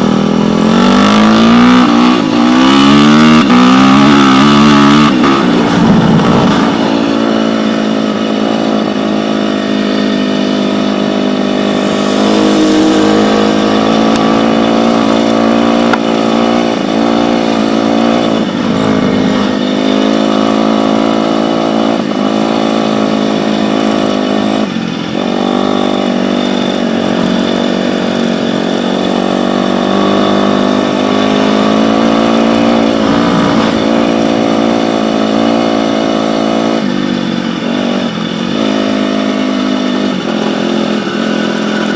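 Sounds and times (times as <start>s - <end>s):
dirt bike engine running: 0.0s - 41.9s.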